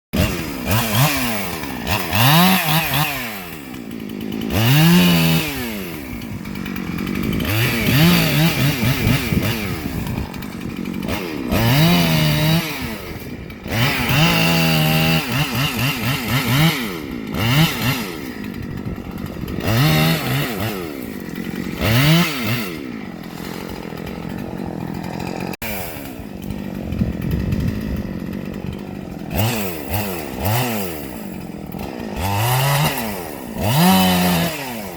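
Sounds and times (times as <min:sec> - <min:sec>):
chainsaw revving: 0:00.2 - 0:34.9.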